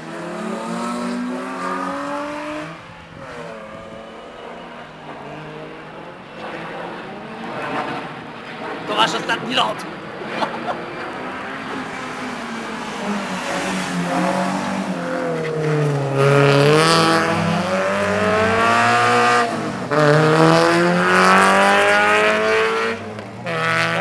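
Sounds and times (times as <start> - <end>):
rally car engine revving: 0.0 - 8.3, 10.2 - 24.0.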